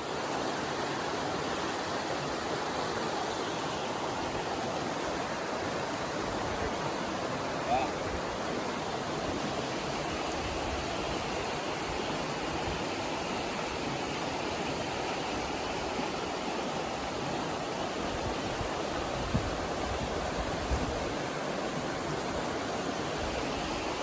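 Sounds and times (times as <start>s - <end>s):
creek water running: 0.0s - 24.0s.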